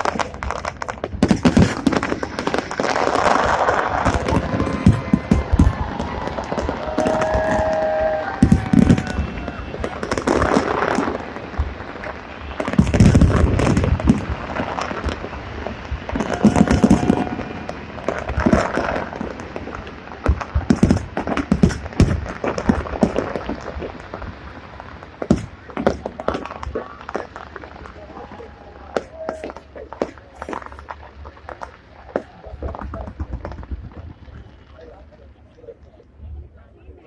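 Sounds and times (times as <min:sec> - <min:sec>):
fireworks whistling: 0:00.0 - 0:35.0
crackling bangs: 0:00.0 - 0:35.2
fireworks booming: 0:00.0 - 0:35.4.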